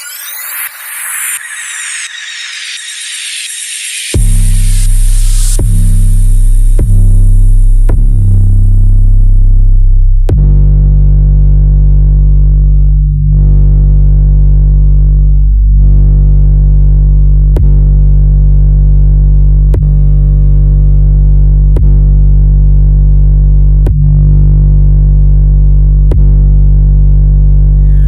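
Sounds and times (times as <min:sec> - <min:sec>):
deep bass test tone: 0:04.2 - 0:28.0.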